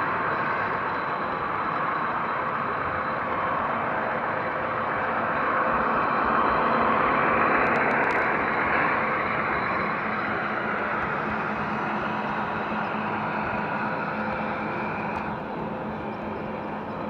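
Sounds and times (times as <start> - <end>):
model trains rolling rumble: 0.0 - 17.0.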